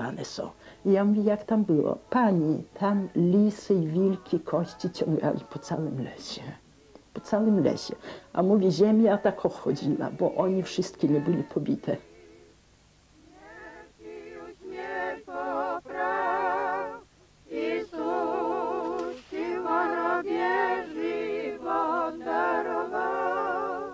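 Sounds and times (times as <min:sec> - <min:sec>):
unaccompanied chant singing: 0:00.8 - 0:12.6, 0:13.2 - 0:23.9.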